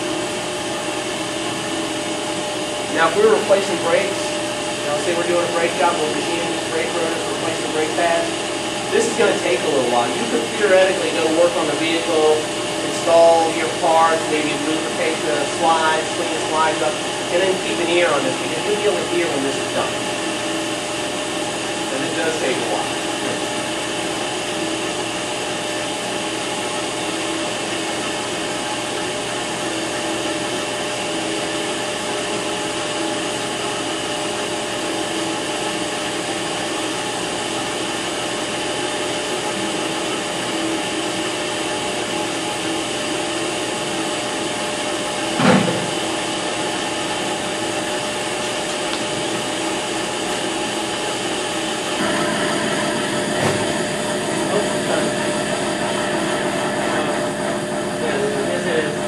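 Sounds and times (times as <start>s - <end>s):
brake lathe whirring: 0.0s - 59.0s.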